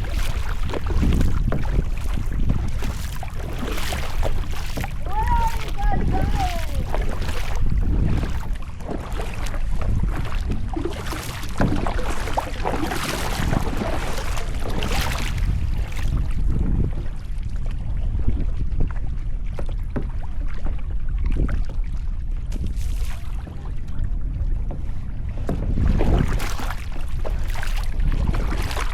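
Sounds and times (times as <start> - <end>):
paddle strokes splashing water: 0.0 - 28.9
wind buffeting microphone: 0.0 - 28.9.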